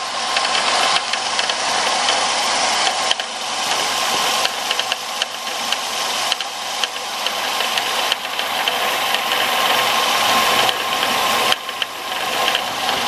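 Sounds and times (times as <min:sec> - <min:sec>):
car engine running: 0:00.0 - 0:13.0
steady whine: 0:00.0 - 0:13.0
belt tensioner clicking rattle: 0:00.3 - 0:02.2, 0:02.8 - 0:13.0.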